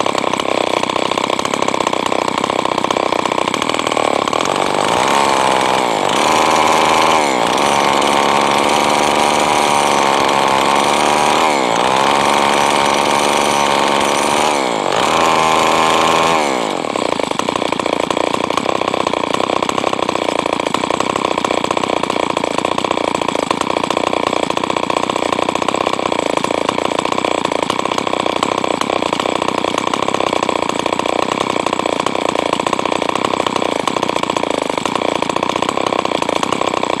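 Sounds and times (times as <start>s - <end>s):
chainsaw engine running: 0.0s - 37.0s.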